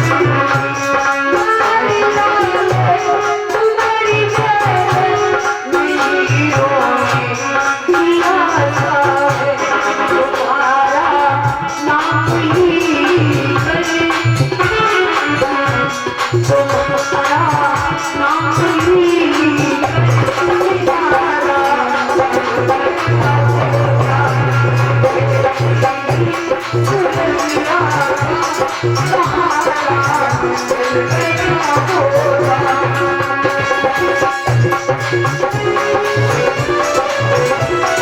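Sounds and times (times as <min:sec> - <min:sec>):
hand drum beat: 0:00.0 - 0:07.4, 0:11.1 - 0:38.0.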